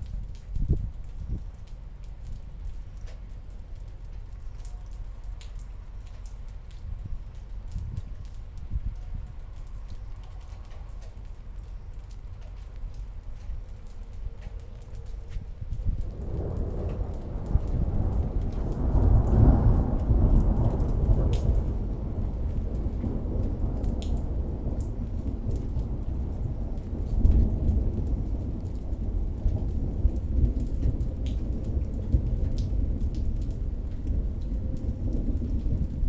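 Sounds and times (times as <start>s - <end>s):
raindrop ticks: 0.0s - 36.0s
steady rain: 0.0s - 36.0s
thunder rumbling: 0.0s - 36.0s.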